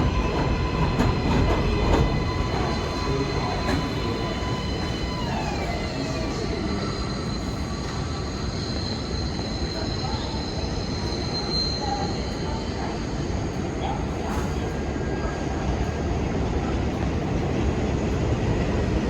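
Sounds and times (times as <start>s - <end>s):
subway train rail rumble: 0.0s - 19.0s.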